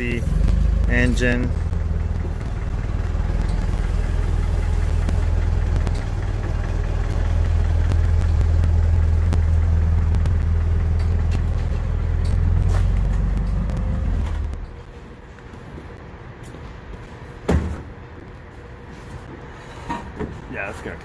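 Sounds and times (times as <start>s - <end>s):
vehicle engine idling: 0.0s - 19.5s.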